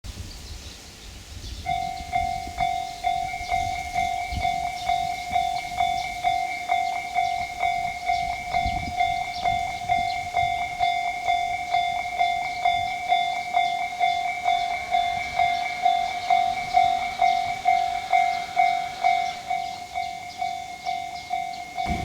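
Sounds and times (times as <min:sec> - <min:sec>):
level crossing alarm clanging: 0:01.7 - 0:22.0.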